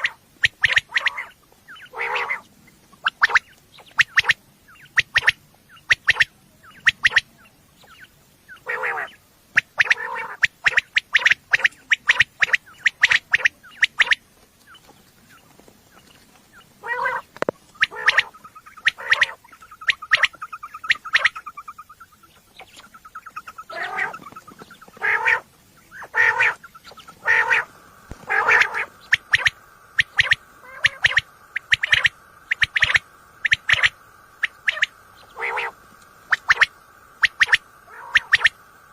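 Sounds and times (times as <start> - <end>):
lower rough bird calls: 0.0 - 38.9
quail calling: 0.0 - 38.9.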